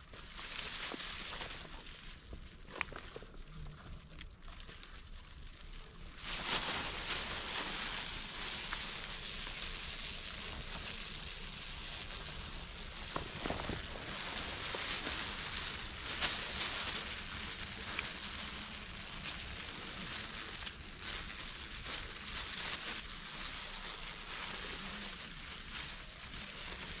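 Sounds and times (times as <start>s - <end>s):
plastic bag rustling and crinkling: 0.0s - 27.0s.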